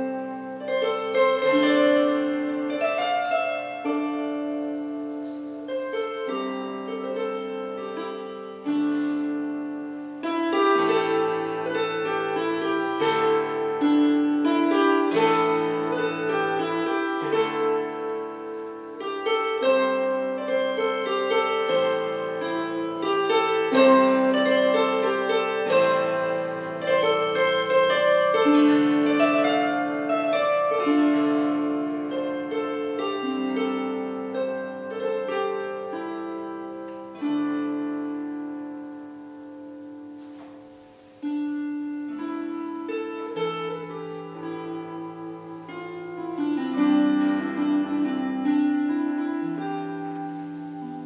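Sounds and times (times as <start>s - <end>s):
harp playing slow solo: 0.0s - 51.0s.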